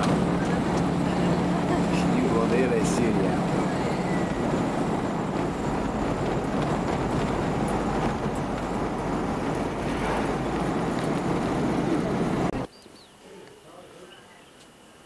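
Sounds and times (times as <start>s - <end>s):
bus engine and road noise: 0.0s - 12.7s.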